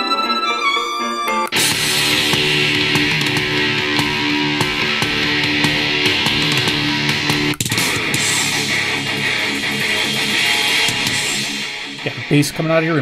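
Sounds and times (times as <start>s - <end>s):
guitar music from small speaker: 0.0s - 13.0s.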